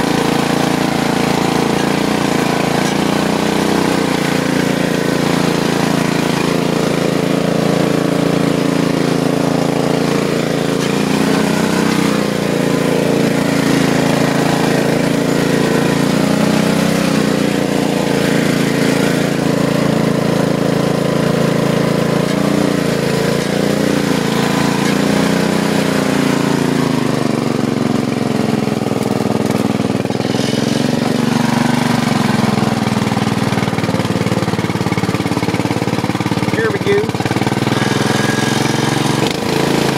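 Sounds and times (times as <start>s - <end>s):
lawn mower engine under load: 0.0s - 39.9s.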